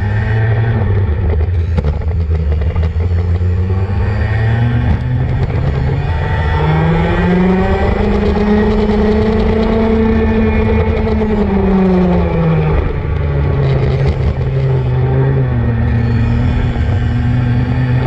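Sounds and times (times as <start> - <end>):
go-kart engine at speed: 0.0 - 18.0.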